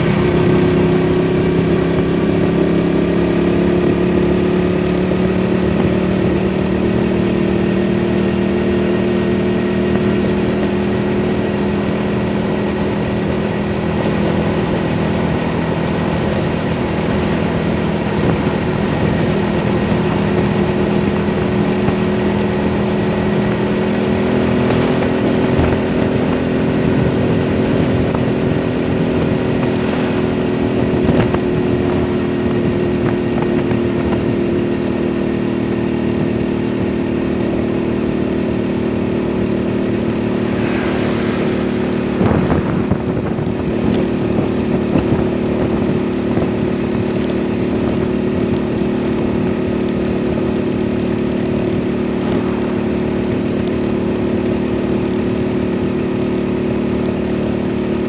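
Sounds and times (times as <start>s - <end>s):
motorcycle engine cruising: 0.0s - 58.0s
road and wind noise: 0.0s - 58.0s.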